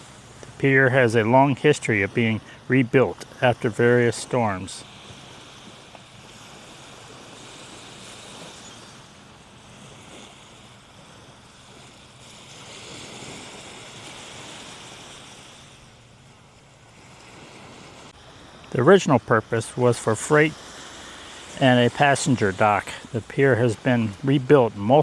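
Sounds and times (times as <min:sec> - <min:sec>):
surf waves breaking: 0:00.0 - 0:25.0.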